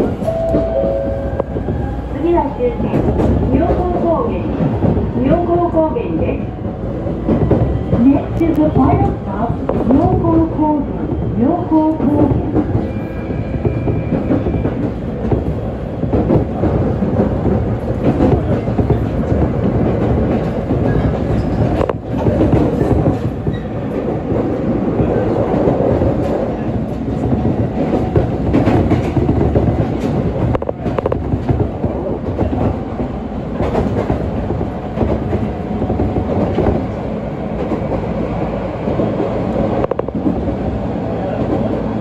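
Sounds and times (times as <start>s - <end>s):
train rumbling inside carriage: 0.0s - 42.0s.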